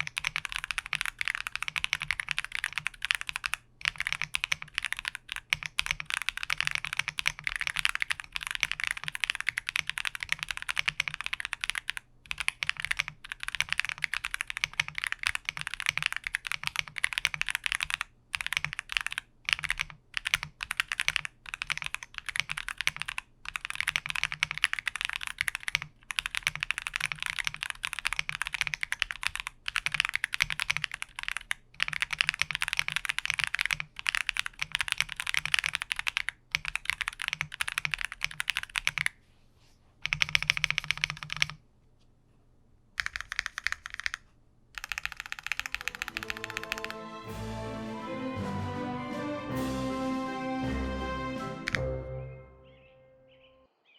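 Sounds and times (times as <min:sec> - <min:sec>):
fast mechanical keyboard typing: 0:00.0 - 0:39.2, 0:40.0 - 0:41.6, 0:43.0 - 0:47.0.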